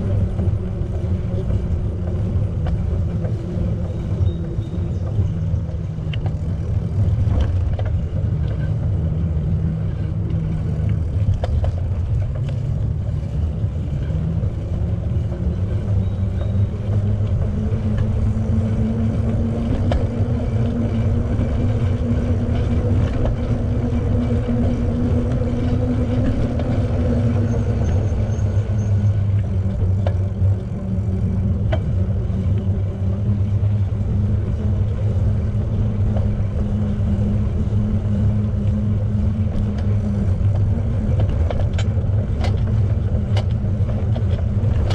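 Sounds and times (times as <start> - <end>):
bicycle tyre noise on path: 0.0 - 44.9
wind buffeting microphone: 0.0 - 44.9.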